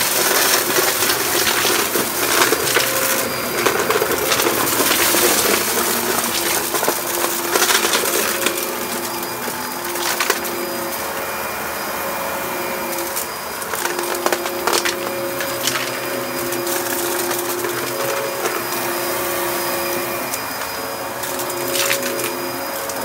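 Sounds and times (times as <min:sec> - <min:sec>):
debris crackling and rattling: 0:00.0 - 0:23.0
vacuum cleaner on carpet: 0:00.0 - 0:23.0.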